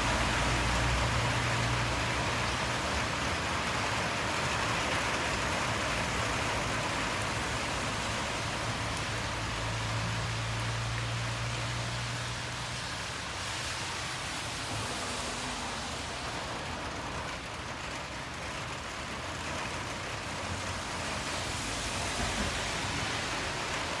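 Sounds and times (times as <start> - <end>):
rain hissing: 0.0 - 24.0
traffic on a wet road: 0.0 - 24.0.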